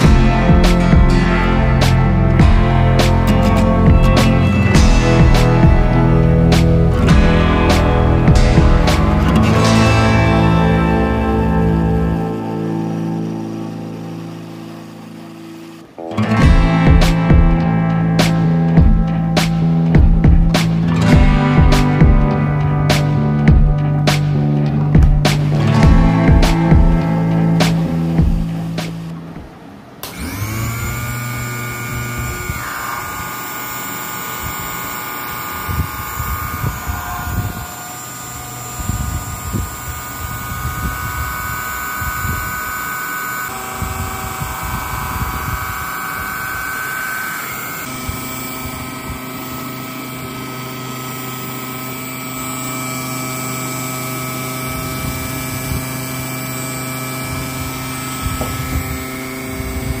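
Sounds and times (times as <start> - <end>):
small motor whirring: 0.0 - 60.0.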